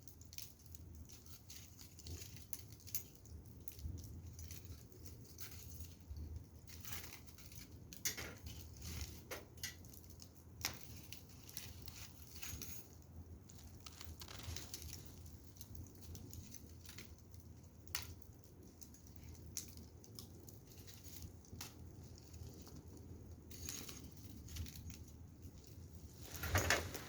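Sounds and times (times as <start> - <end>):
firewood fire crackling: 0.0 - 27.0.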